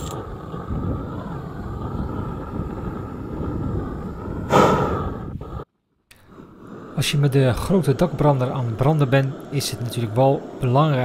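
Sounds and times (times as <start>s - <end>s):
torch flame roaring: 0.0s - 11.0s.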